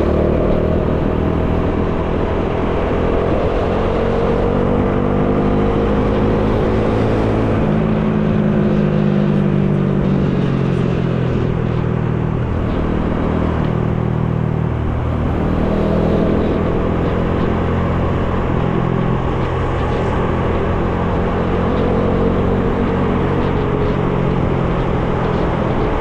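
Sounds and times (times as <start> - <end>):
motorcycle engine running: 0.0 - 26.0
wind noise: 0.0 - 26.0.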